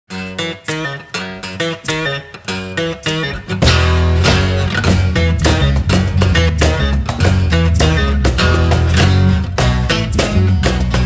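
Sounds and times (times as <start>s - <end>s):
acoustic guitar strumming chords: 0.1s - 11.0s.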